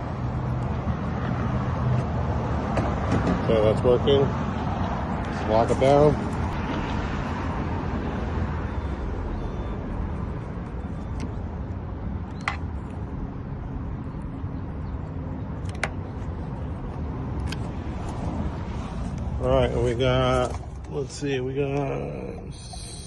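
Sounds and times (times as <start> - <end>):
low rumble of road noise: 0.0 - 23.0.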